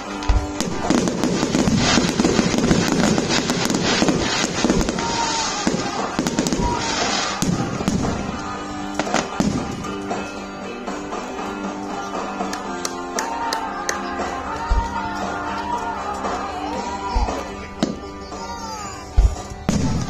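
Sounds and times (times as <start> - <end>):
fireworks crackling and banging: 0.0 - 20.0
music playing: 0.0 - 20.0.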